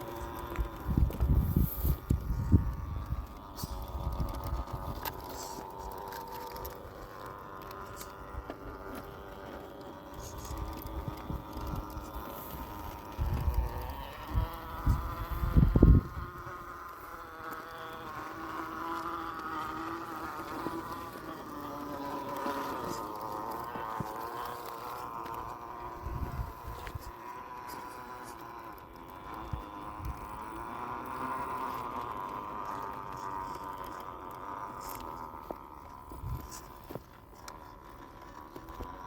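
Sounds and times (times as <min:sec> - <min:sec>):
electric motor whining: 0:00.0 - 0:39.0.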